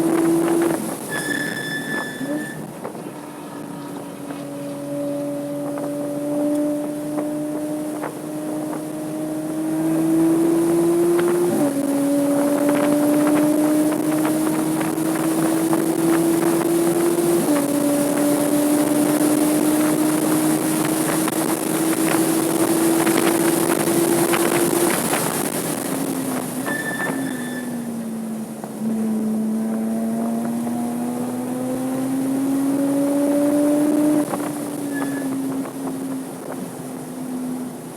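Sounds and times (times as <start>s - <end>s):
car engine at high revs: 0.0s - 1.3s, 2.0s - 37.9s
wind and road noise: 0.0s - 37.9s.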